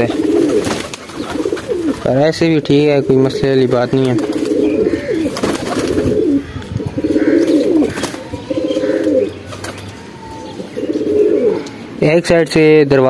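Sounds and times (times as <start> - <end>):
pigeons cooing: 0.0 - 12.3.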